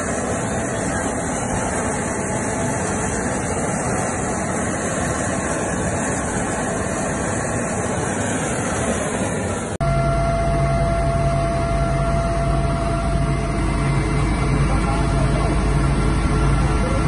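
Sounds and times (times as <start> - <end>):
helicopter engines and rotor roar: 0.0 - 17.0.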